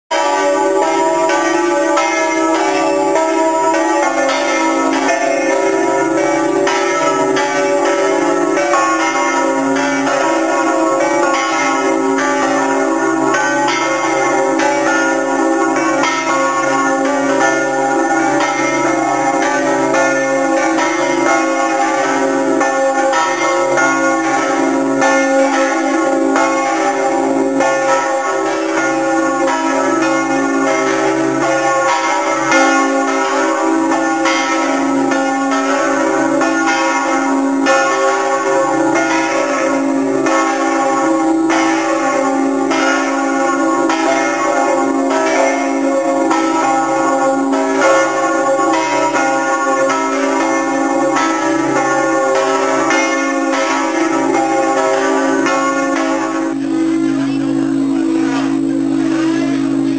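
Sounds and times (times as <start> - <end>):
church bells ringing: 0.1 - 59.9.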